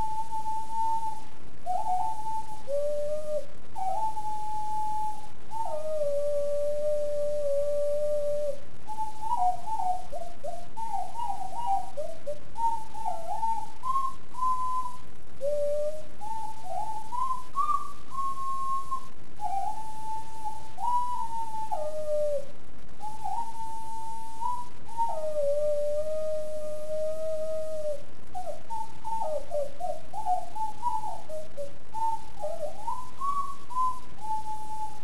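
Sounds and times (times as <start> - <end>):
ocarina melody: 0.0 - 35.0.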